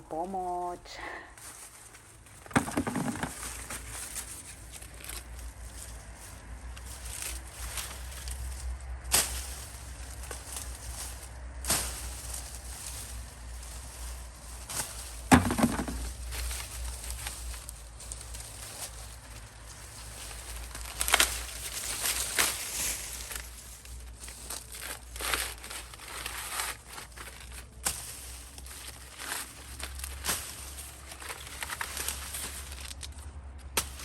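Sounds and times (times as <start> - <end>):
dry corn husks rustling: 0.0 - 34.0.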